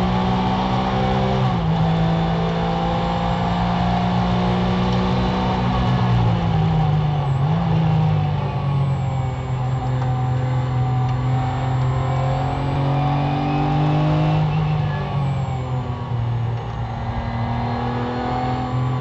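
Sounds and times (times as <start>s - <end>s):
racing engine from inside car: 0.0s - 19.0s.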